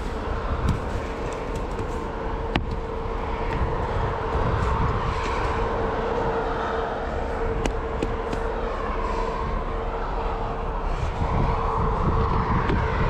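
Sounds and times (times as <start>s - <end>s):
low rumble: 0.0s - 13.0s
motor humming: 0.0s - 13.0s
rushing noise: 0.0s - 13.0s.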